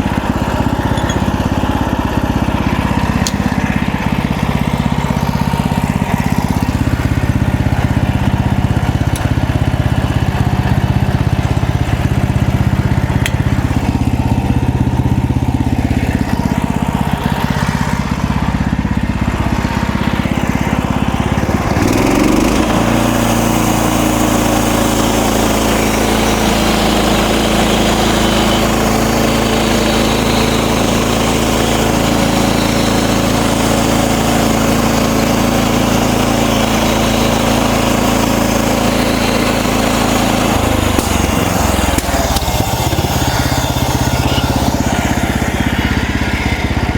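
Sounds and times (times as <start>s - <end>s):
sawmill engine sawing wood: 0.0s - 46.9s.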